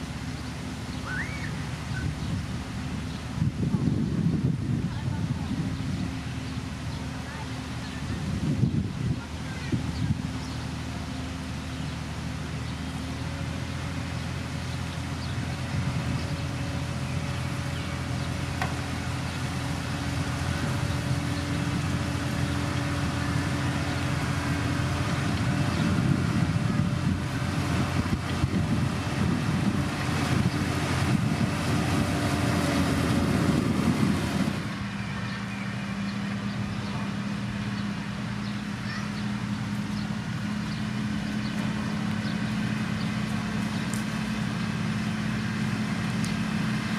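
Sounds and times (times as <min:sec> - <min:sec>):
heavy diesel machinery engine: 0:00.0 - 0:46.9.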